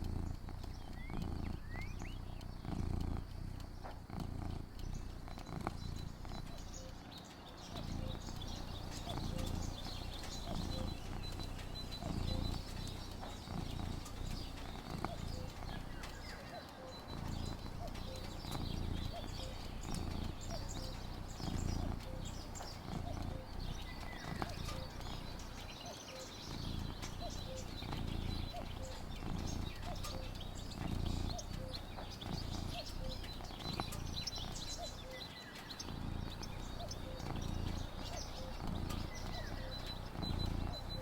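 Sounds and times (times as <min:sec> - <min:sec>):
birds chirping: 0:00.0 - 0:41.0
low uneven rumble: 0:00.0 - 0:41.0.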